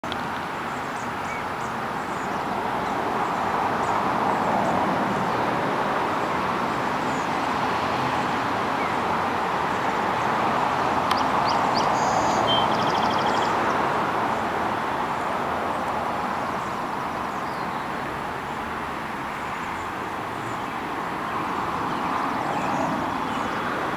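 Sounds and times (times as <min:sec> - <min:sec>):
road traffic rushing: 0:00.0 - 0:23.9.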